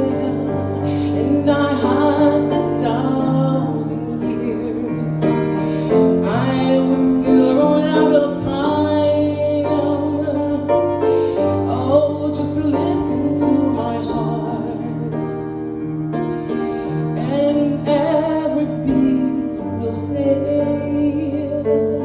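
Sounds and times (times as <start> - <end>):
gospel piano accompaniment: 0.0 - 22.0
person singing: 0.0 - 22.0.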